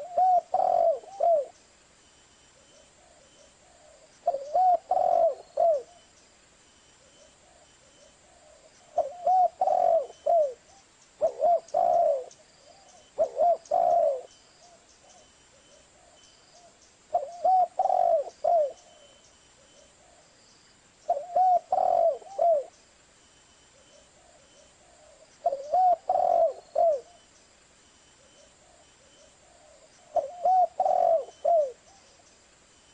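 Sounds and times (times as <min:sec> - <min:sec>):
dove cooing: 0:00.0 - 0:01.6, 0:02.6 - 0:06.1, 0:07.0 - 0:20.2, 0:21.1 - 0:22.8, 0:23.7 - 0:27.3, 0:28.2 - 0:32.2.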